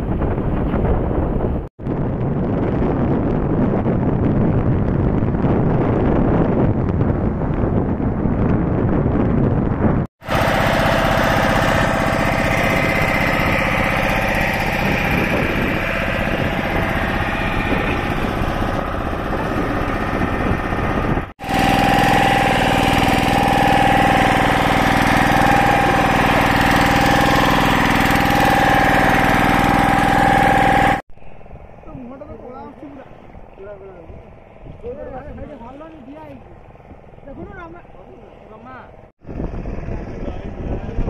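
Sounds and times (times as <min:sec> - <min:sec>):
motorboat engine running: 0:00.0 - 0:41.0
wind buffeting microphone: 0:00.0 - 0:41.0.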